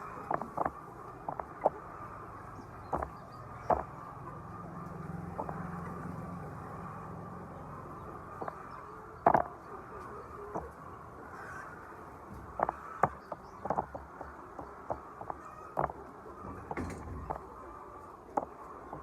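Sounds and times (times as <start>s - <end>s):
hens calling: 0.0s - 19.0s
steady background noise: 0.0s - 19.0s.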